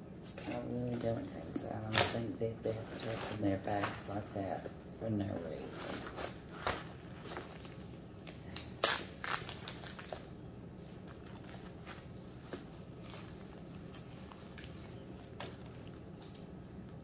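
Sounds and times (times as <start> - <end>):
wrapping crinkling and rustling: 0.2 - 17.0.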